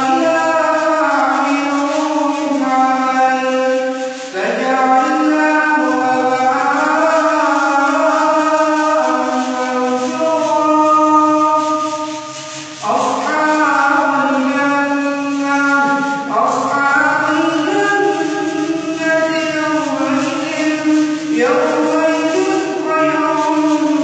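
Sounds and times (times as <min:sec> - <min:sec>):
man chanting melodically: 0:00.0 - 0:24.0.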